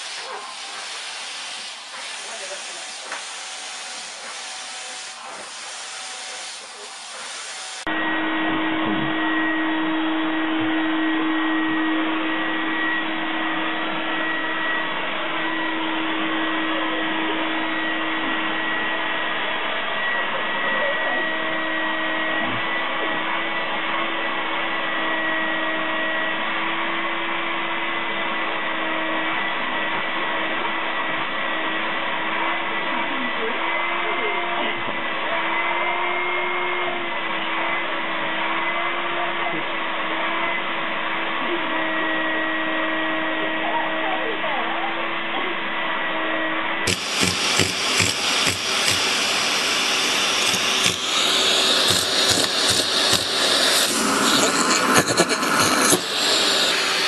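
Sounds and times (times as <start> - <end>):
vacuum cleaner whine: 0.0 - 57.0.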